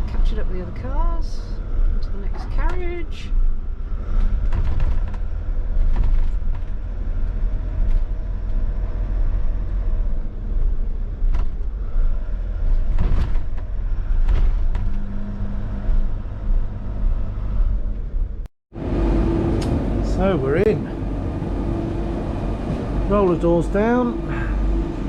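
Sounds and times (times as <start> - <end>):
motorhome engine rumble: 0.0 - 25.0.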